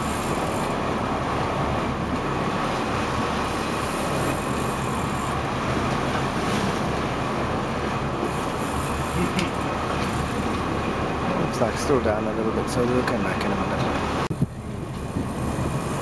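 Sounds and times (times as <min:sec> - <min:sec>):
boat engine running: 0:00.0 - 0:16.0
wind and water rushing: 0:00.0 - 0:16.0.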